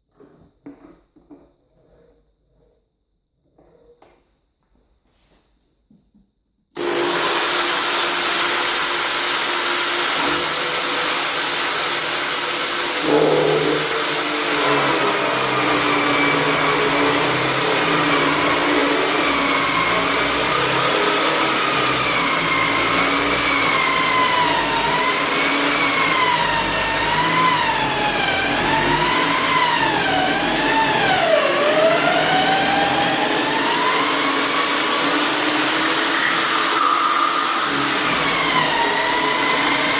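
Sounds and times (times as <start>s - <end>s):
electric drill boring into wood: 6.8s - 39.9s.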